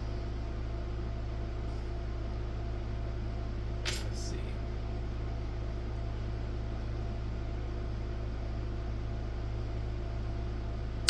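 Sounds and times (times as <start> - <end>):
low hum with light hiss: 0.0 - 11.0.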